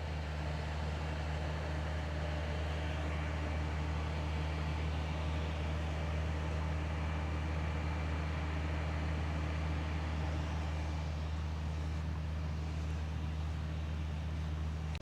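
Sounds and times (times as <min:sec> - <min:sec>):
mower engine droning: 0:00.0 - 0:15.0.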